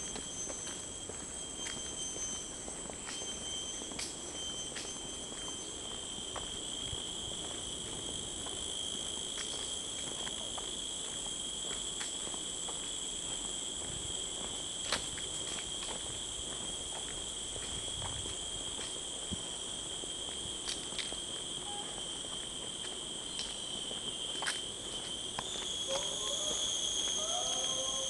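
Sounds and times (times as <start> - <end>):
footstep scuffs on pavement: 0.0 - 28.0
insects droning: 0.0 - 28.0.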